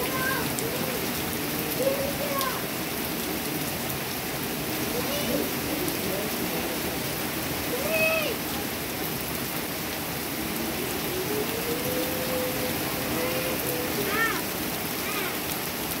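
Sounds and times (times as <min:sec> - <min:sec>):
heavy rain on pond and decking: 0:00.0 - 0:16.0.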